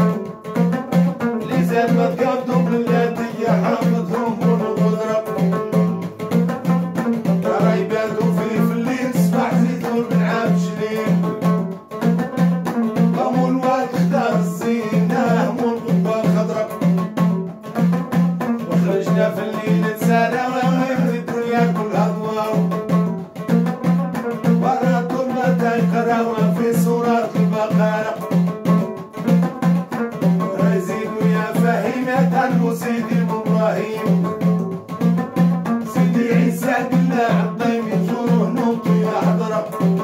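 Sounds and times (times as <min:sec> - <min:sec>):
man singing folk song: 0:00.0 - 0:40.0
plucked long-necked lute: 0:00.0 - 0:40.0.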